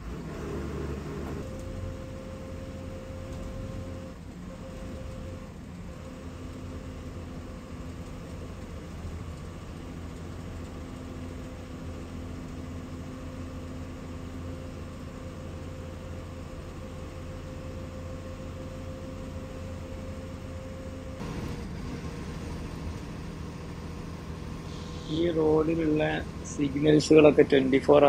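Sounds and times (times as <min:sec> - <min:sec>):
bus engine drone and road noise: 0:00.0 - 0:28.0.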